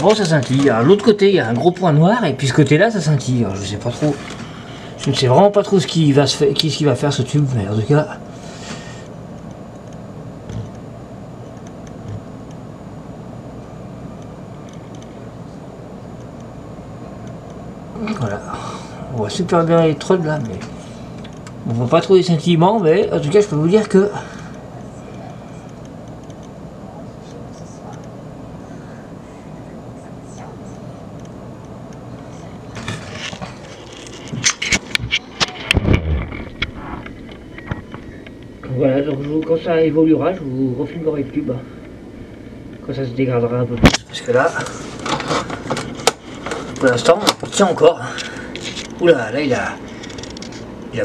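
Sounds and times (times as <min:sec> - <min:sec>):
fluorescent light hum and hiss: 0:00.0 - 0:51.0.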